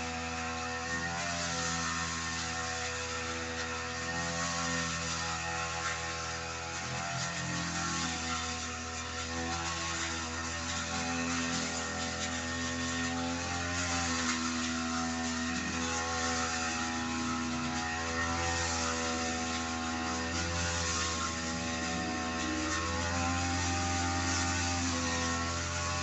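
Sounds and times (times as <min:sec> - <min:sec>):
grass cutter engine running: 0:00.0 - 0:26.0.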